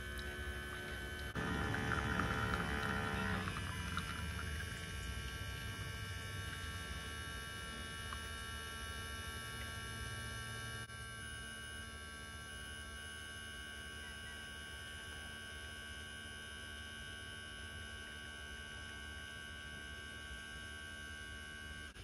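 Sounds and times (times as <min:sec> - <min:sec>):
espresso machine pump hum: 0:00.0 - 0:22.0.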